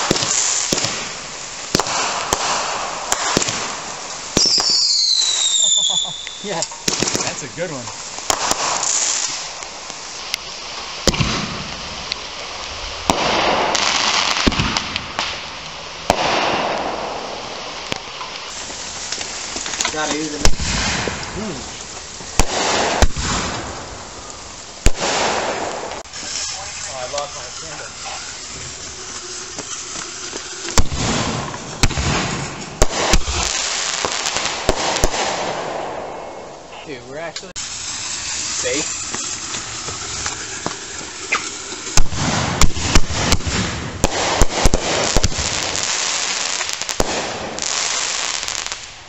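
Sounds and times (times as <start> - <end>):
fireworks bangs: 0.0 - 49.0
fireworks crackling fizz: 0.0 - 49.0.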